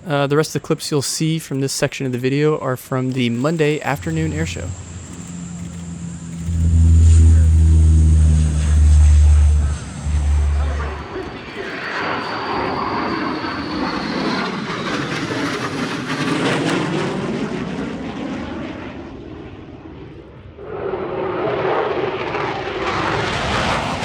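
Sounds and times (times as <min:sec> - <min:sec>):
airplane engine roar overhead: 0:02.2 - 0:24.0.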